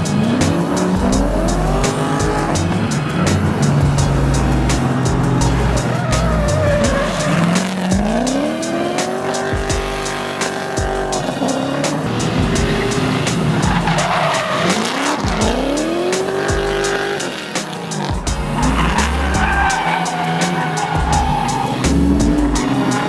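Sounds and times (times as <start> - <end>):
background music with beat: 0.0 - 23.0
car engine revving: 0.0 - 23.0
tyres squealing: 0.0 - 23.0.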